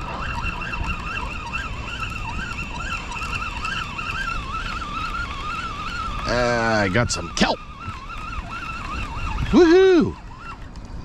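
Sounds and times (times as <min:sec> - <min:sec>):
fishing reel gears whining: 0:00.0 - 0:11.0.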